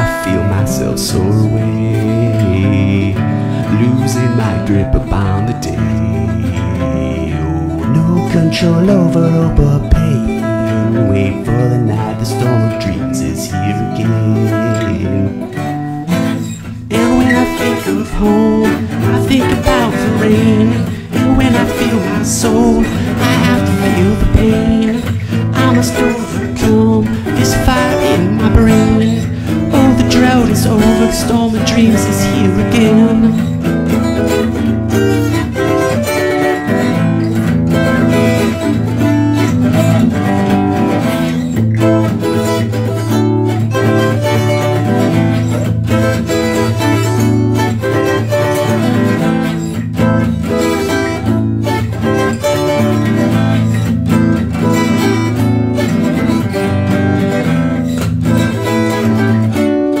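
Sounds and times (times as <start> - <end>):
acoustic guitar strumming: 0.0 - 60.0.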